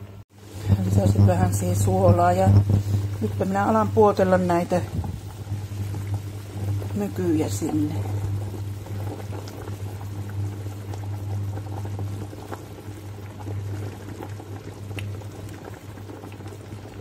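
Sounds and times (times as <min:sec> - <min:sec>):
low hum: 0:00.0 - 0:17.0
broth boiling in a pot: 0:00.3 - 0:17.0.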